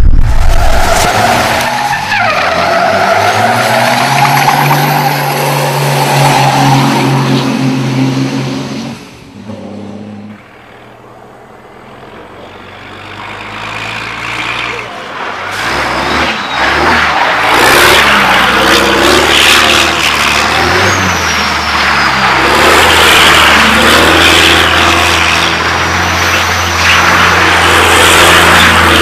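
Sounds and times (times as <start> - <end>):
tyres screeching: 0.0 - 7.3, 12.3 - 29.0
diesel truck engine working hard: 0.0 - 29.0.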